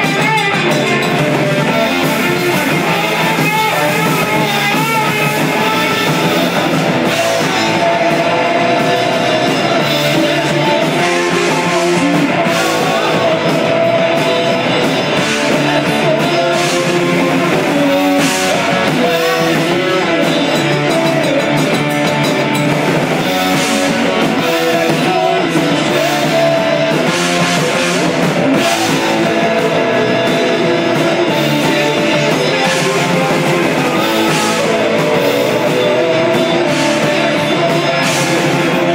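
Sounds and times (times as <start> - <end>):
bass guitar: 0.0 - 38.9
drum kit with cymbals: 0.0 - 38.9
electric guitar: 0.0 - 38.9.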